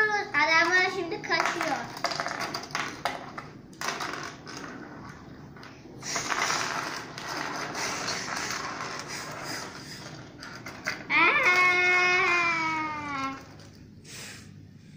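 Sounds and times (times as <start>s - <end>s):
plastic pieces rattling and scraping: 0.3s - 13.8s.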